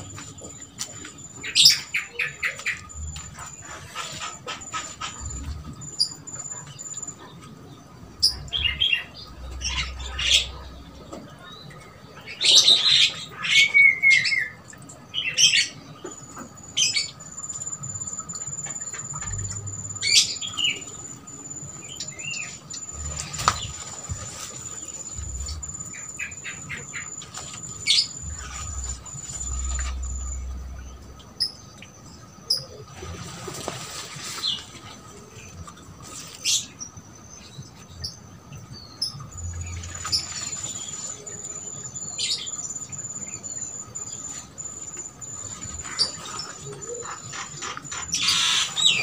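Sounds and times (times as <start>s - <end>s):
thin steady high tone: 0.0s - 13.4s, 14.2s - 36.8s, 37.4s - 49.0s
birds chattering and whistling: 0.0s - 49.0s.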